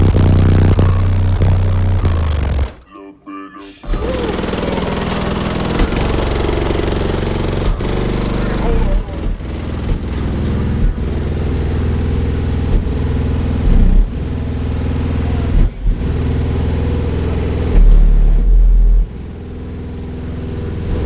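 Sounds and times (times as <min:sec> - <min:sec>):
loud bass-heavy music: 0:00.0 - 0:21.0.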